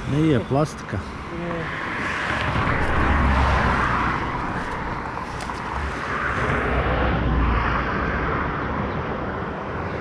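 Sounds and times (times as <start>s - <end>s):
cars passing: 0.0s - 10.0s
steady low rumble: 1.0s - 10.0s.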